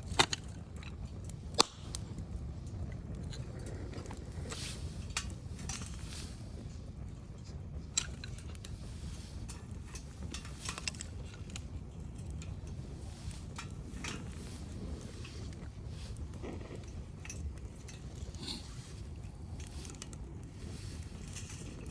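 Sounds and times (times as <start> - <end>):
wood fire crackling and popping: 0.0 - 21.9.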